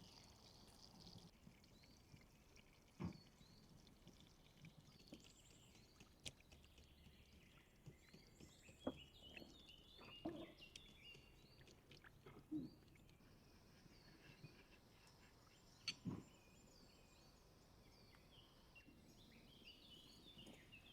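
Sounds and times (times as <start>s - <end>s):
songbirds chirping: 1.0s - 20.9s.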